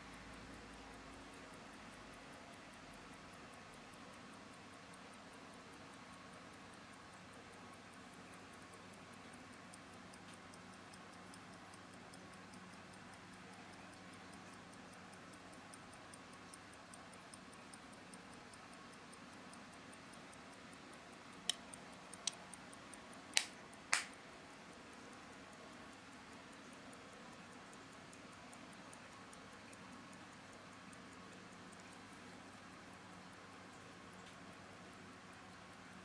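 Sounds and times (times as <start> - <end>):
pocket watch ticking: 0.0 - 36.0.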